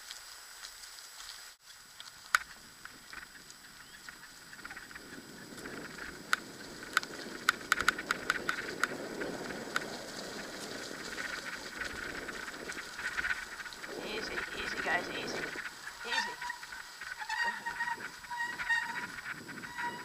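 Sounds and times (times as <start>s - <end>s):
scooter rolling on trail: 0.0s - 20.0s
sharp clicks and rattles: 2.0s - 20.0s.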